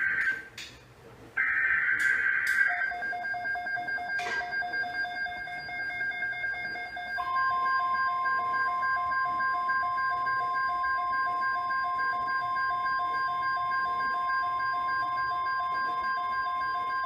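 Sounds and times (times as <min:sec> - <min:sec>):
pulsing alarm beep: 0:00.0 - 0:00.5, 0:01.4 - 0:17.0
steady pure warning tone: 0:00.0 - 0:00.6, 0:01.4 - 0:17.0.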